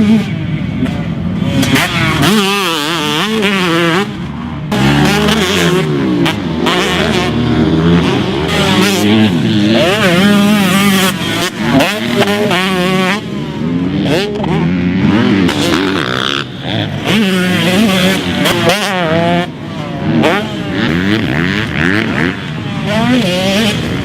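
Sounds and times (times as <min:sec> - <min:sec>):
motocross engine revving: 0:00.0 - 0:24.0.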